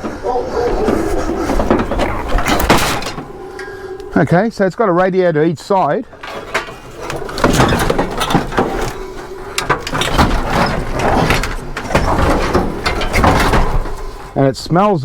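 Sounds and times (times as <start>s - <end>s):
knocks and clunks of metal unit: 0.0s - 4.5s, 6.0s - 14.6s.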